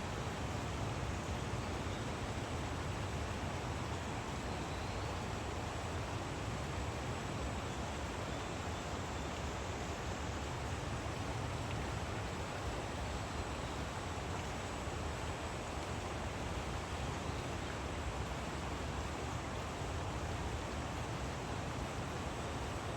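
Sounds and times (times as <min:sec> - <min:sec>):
stream water rushing: 0:00.0 - 0:22.9.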